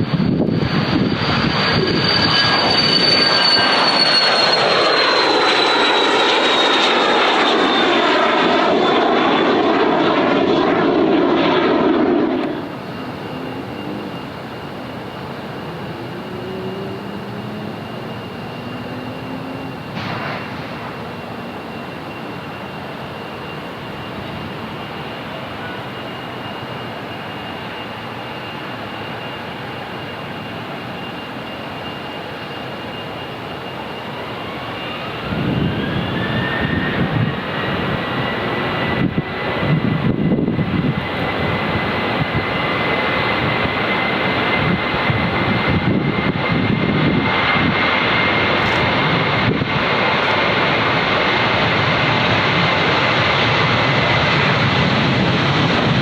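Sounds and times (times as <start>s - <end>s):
jet engine rumble: 0.0s - 56.0s
jet engines whining: 0.0s - 56.0s.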